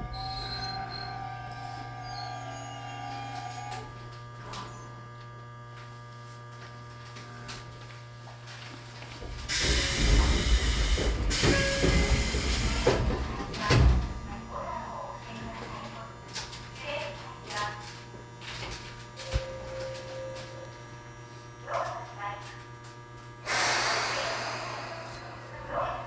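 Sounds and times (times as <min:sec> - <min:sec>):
electrical hum in train car: 0:00.0 - 0:26.0.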